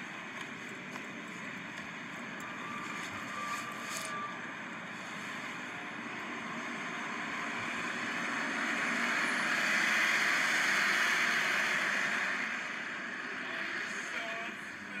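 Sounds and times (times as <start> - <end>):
bus driving past: 0.0 - 15.0.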